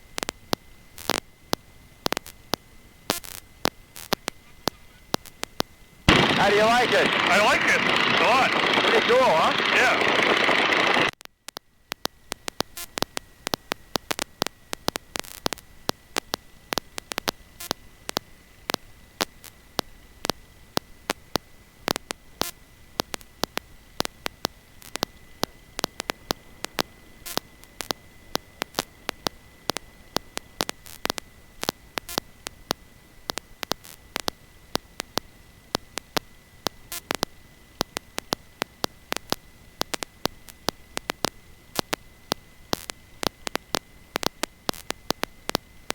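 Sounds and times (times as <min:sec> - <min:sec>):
low hiss: 0:00.0 - 0:45.9
static crackling clicks: 0:00.0 - 0:45.9.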